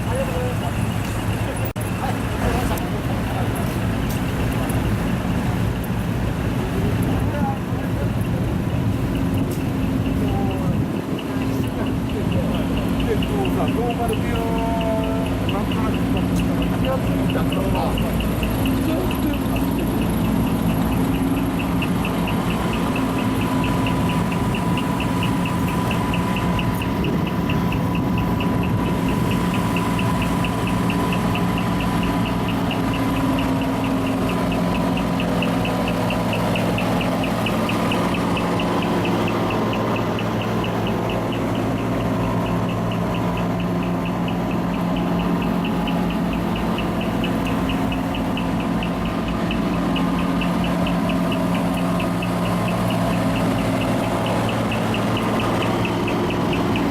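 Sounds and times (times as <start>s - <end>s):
diesel truck engine idling: 0.0s - 56.9s
fast high ticking: 7.6s - 56.9s.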